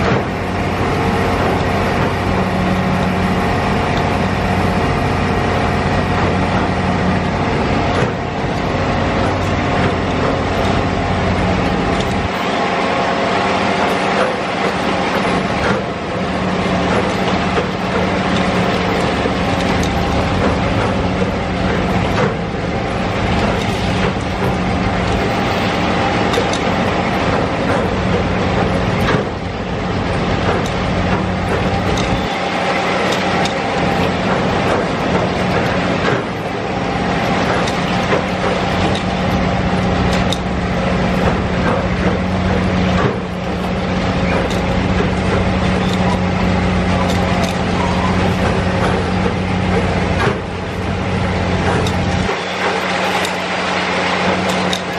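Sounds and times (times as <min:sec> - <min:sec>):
dense mechanical clatter: 0:00.0 - 0:54.9
heavy engines running: 0:00.0 - 0:54.9.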